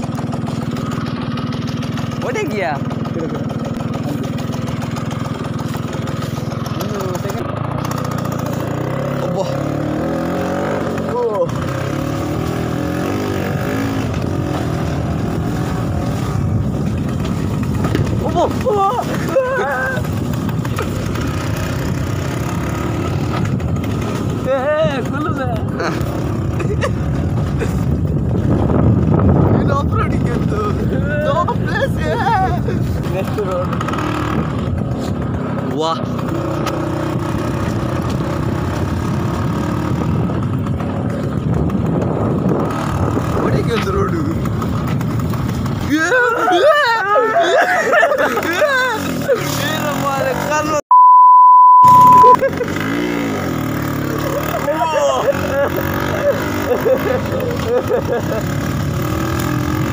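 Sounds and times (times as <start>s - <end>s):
small motorcycle engine running: 0.0s - 50.8s, 51.9s - 59.9s.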